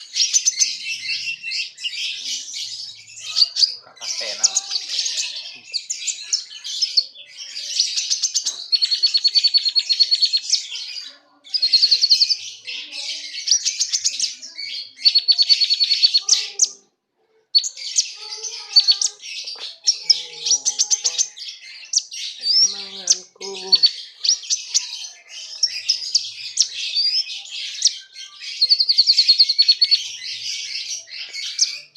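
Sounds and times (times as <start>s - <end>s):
songbird singing chirps and trills: 0.0s - 31.9s.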